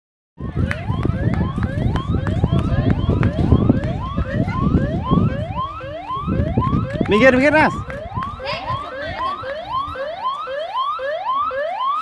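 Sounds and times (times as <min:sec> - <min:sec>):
electronic siren yelping: 0:00.4 - 0:12.0.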